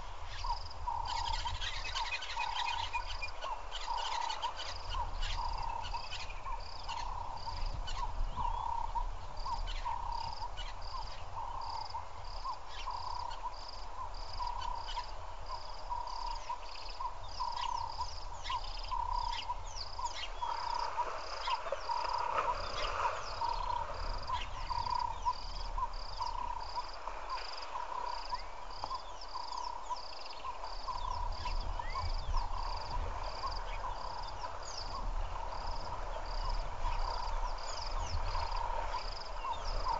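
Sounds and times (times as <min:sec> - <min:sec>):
repeated animal calls: 0:00.0 - 0:39.9.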